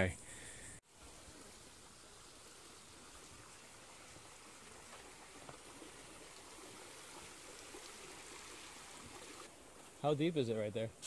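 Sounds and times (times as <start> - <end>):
stream flowing: 0.9 - 11.0.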